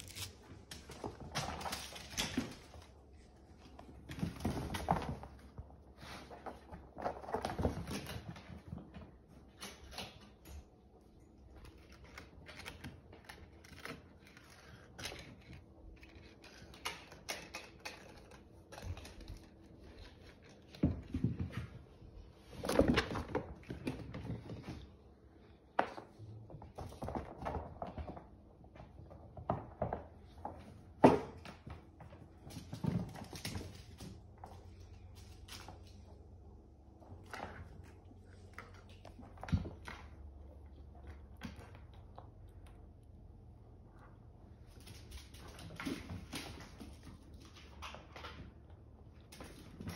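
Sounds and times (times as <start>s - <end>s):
kittens' paws thumping and scrabbling: 0.0s - 13.9s, 15.2s - 43.0s, 44.5s - 49.9s.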